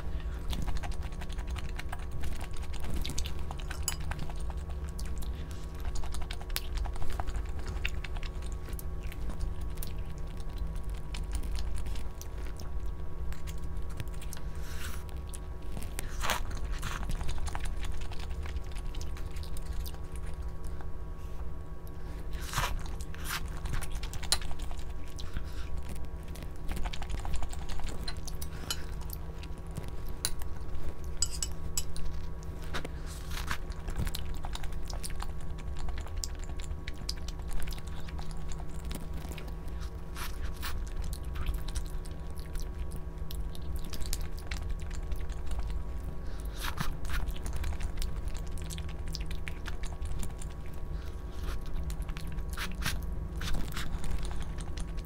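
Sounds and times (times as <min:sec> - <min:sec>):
person chewing crunchy food: 0:00.0 - 0:21.2, 0:21.8 - 0:55.0.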